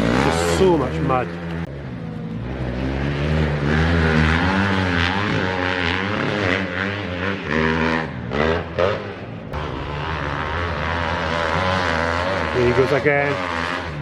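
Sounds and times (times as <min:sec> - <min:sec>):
dirt bike engines revving: 0:00.0 - 0:14.0
low engine drone: 0:00.0 - 0:14.0.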